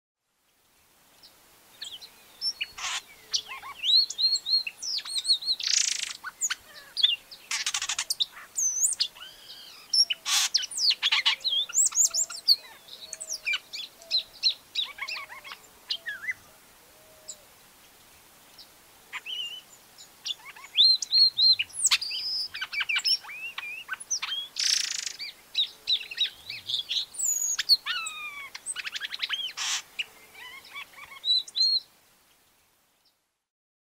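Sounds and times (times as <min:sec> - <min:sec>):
bird singing whistled notes: 0:01.8 - 0:16.4, 0:19.2 - 0:31.9.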